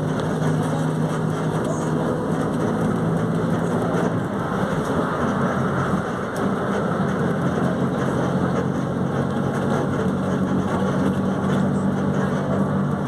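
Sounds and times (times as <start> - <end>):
bus diesel engine humming: 0.0 - 13.0.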